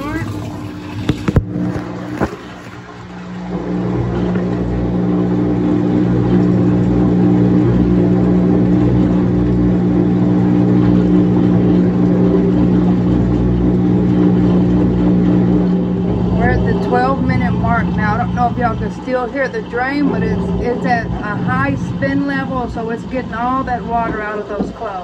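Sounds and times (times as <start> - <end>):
drain pump running: 0.0 - 25.0
washing machine spinning: 0.0 - 25.0.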